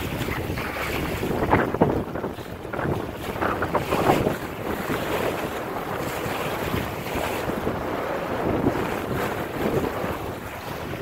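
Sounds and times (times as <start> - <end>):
water splashing along hull: 0.0 - 11.0
wind buffeting microphone: 0.0 - 11.0.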